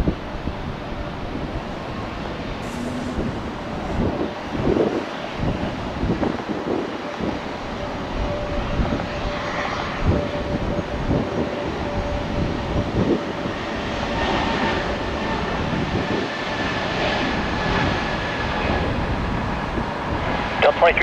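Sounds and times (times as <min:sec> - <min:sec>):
jet engine whining: 0:00.0 - 0:21.0.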